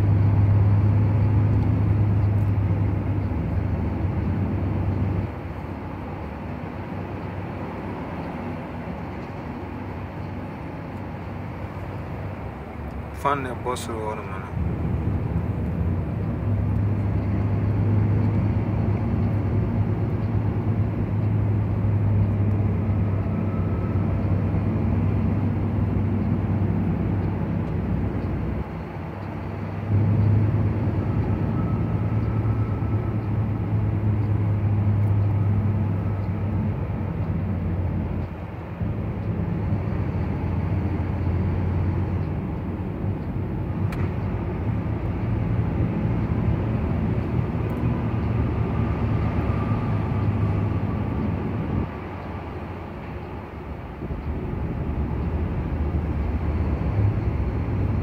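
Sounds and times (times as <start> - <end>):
road noise: 0.0 - 58.0
truck engine hum: 0.0 - 58.0.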